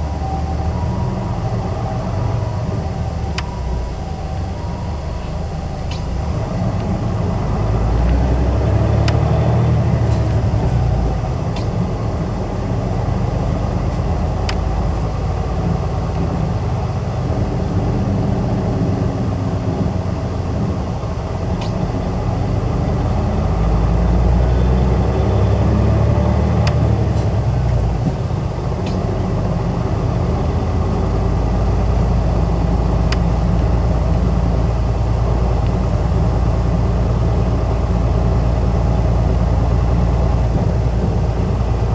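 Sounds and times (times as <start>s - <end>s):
bus engine running: 0.0s - 41.9s.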